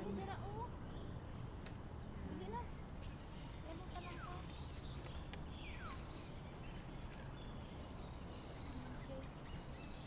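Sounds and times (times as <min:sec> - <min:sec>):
soft bird chirps: 0:00.0 - 0:10.0.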